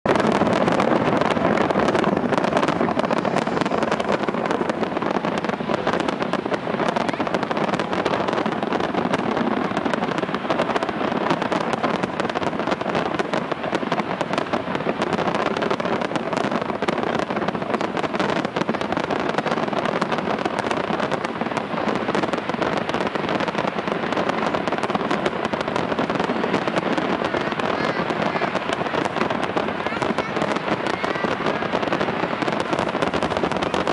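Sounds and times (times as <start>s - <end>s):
fireworks crackling and banging: 0.0s - 33.9s.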